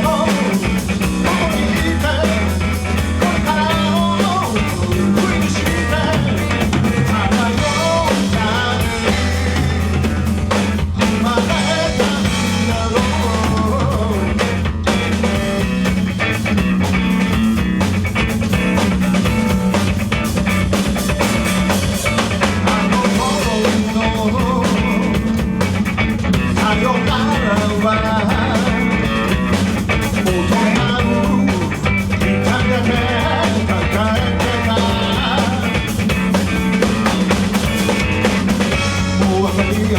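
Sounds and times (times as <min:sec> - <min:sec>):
drum kit: 0:00.0 - 0:39.9
electric guitar: 0:00.0 - 0:39.9
rock band playing live: 0:00.0 - 0:39.9.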